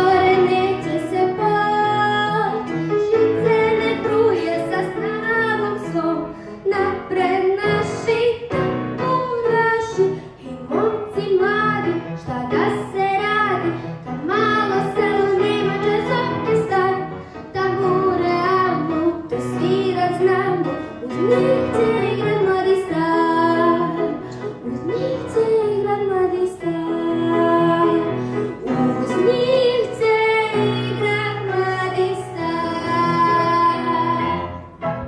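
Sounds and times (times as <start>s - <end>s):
girl singing: 0.0s - 34.7s
instrumental accompaniment: 0.0s - 35.0s.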